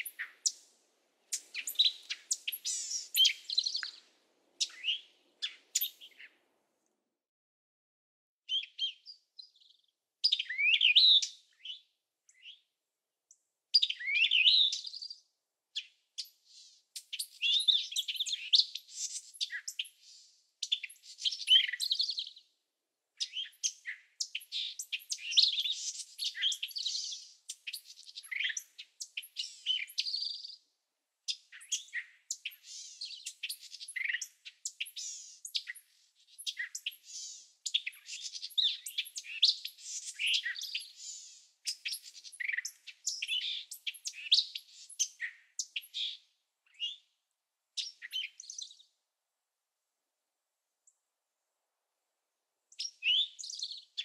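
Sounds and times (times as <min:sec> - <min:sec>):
small birds chirping: 0:00.0 - 0:06.5, 0:08.5 - 0:22.6, 0:23.2 - 0:49.0, 0:52.7 - 0:54.0.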